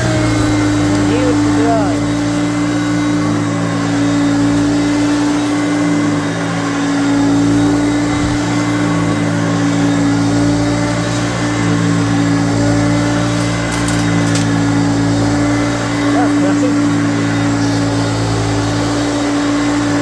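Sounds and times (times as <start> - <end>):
vacuum cleaner humming: 0.0 - 20.0.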